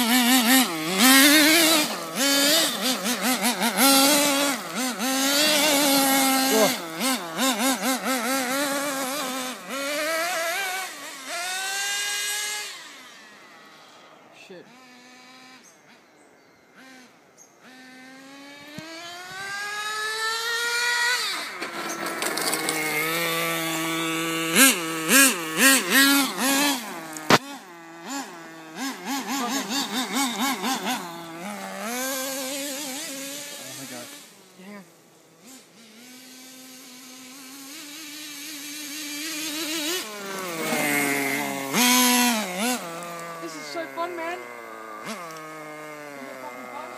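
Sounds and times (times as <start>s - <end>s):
small glow engine revving: 0.0s - 46.9s.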